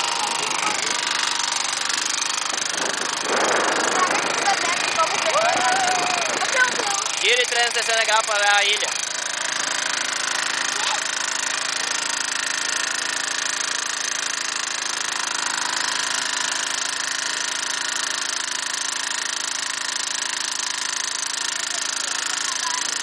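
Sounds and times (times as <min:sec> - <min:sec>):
boat engine running steadily: 0:00.0 - 0:23.0.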